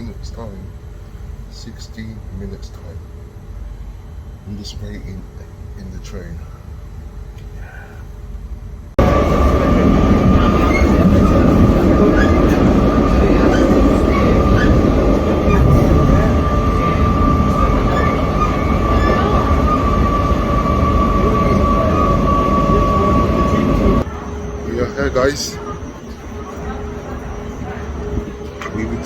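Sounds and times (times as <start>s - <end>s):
high steady whine: 0.0s - 29.0s
train rumble: 0.0s - 29.0s.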